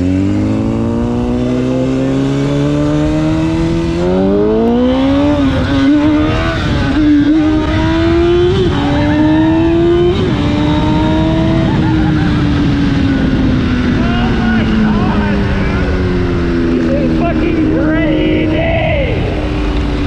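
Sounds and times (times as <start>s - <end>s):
motorcycle engine revving: 0.0s - 20.0s
rushing wind: 0.0s - 20.0s.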